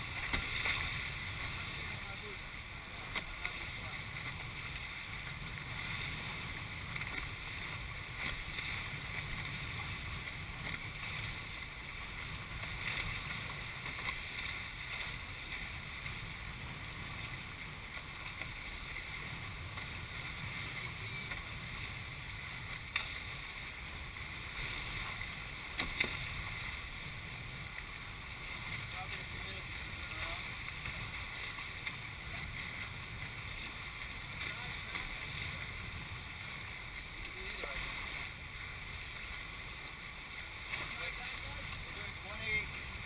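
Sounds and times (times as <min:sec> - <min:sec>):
water slaps: 0:00.0 - 0:16.2, 0:17.2 - 0:36.0
water rushing along hulls: 0:00.0 - 0:43.0.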